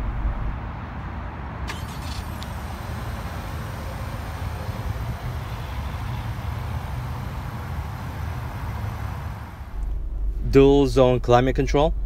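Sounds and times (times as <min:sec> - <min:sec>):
car engine idling: 0:01.7 - 0:12.0.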